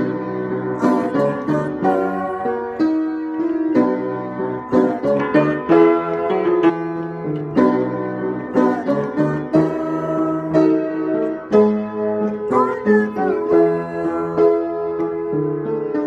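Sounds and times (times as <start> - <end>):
upright piano playing: 0.0 - 16.0.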